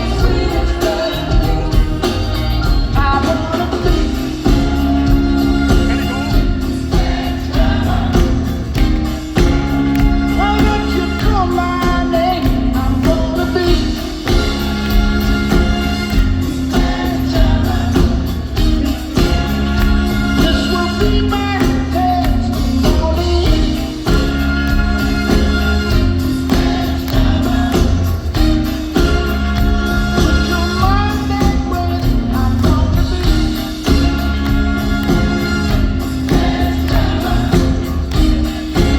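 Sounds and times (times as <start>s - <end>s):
backing vocals: 0.0s - 38.9s
lead vocals: 0.0s - 38.9s
live rock band playing: 0.0s - 38.9s.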